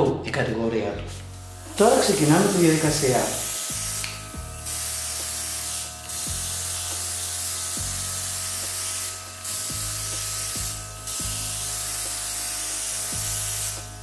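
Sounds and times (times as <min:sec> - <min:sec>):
airbrush spraying hiss: 0:01.1 - 0:14.0.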